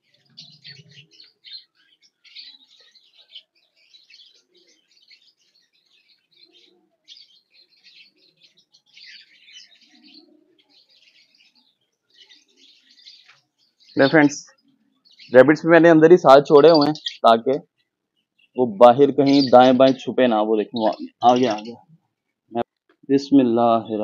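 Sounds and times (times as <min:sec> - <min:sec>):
budgerigars chirping: 0:00.0 - 0:21.9.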